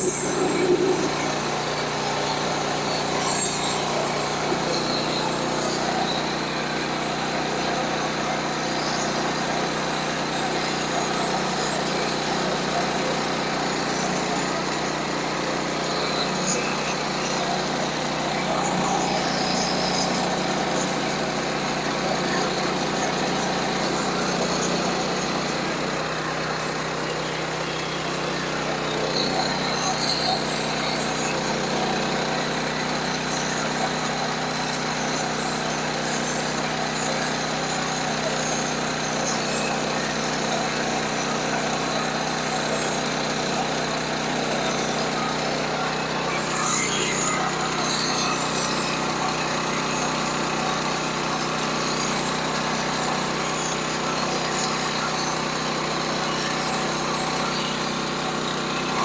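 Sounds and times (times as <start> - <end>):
sawmill working noise: 0.0 - 59.0
small gas engine running: 0.0 - 59.0.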